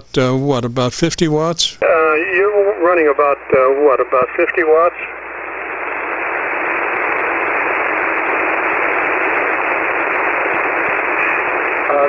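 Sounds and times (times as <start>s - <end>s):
radio receiver static hiss: 0.0s - 12.0s.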